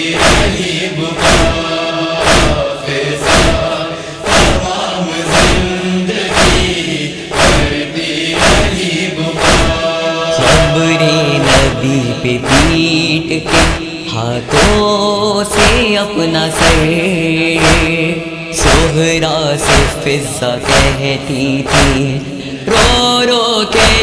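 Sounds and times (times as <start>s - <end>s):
chest-beating thuds: 0.0s - 10.8s, 11.4s - 11.8s, 12.4s - 15.9s, 16.6s - 23.1s
chorus chanting a droning line: 0.0s - 24.0s.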